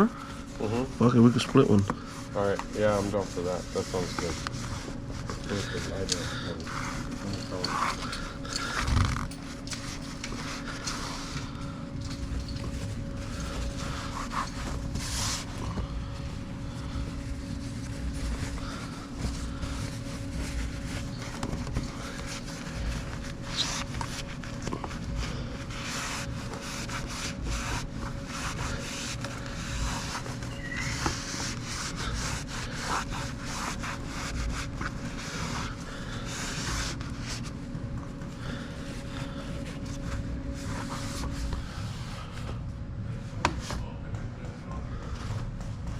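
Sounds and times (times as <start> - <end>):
steady low hum: 0.0 - 45.9
rubbing and scraping: 0.4 - 42.5.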